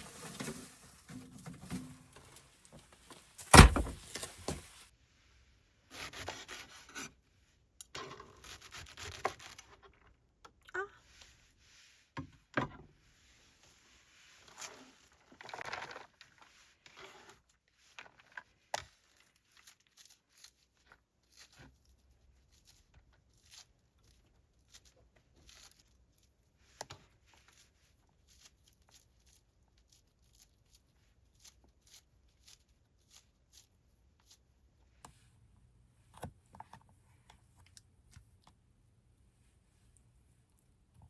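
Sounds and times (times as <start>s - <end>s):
faint rustling and crinkling: 0.0s - 4.9s, 8.4s - 41.0s.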